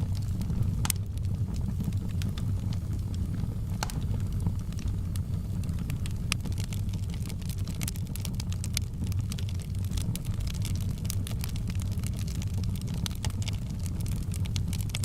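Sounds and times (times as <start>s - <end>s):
fire crackles and pops: 0.0s - 15.0s
fire flames rumbling: 0.0s - 15.0s.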